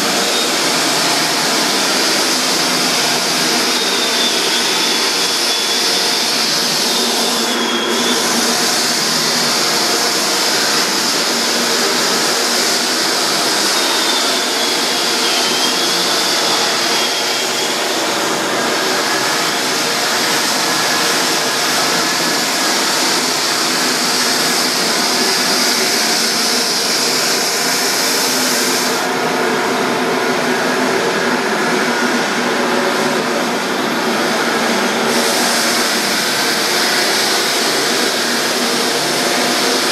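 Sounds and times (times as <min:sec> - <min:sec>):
floor sander running: 0:00.0 - 0:39.9.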